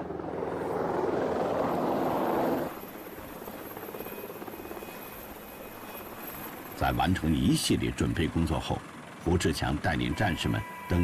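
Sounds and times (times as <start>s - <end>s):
helicopter rotor and engines: 0.0s - 11.0s.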